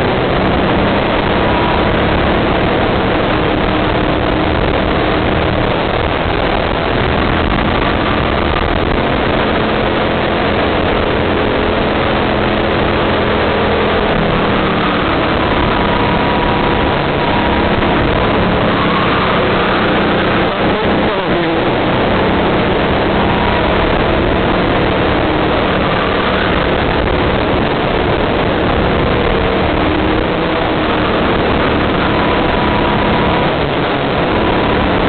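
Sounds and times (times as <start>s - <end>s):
go-kart engine running: 0.0s - 35.0s
heavy wind noise: 0.0s - 35.0s
track noise: 0.0s - 35.0s.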